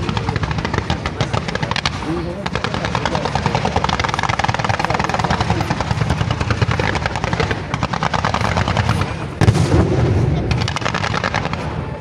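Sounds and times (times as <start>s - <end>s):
fireworks barrage: 0.0s - 12.0s
fireworks bursts cracking: 0.0s - 12.0s.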